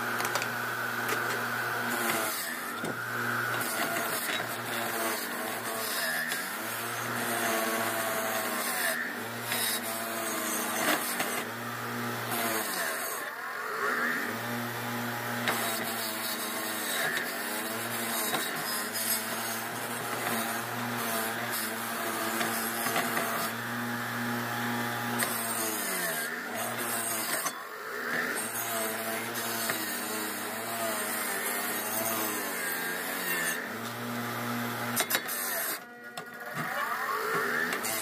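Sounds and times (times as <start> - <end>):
bench grinder motor hum: 0.0 - 38.0
metal grinding on wheel: 0.0 - 38.0.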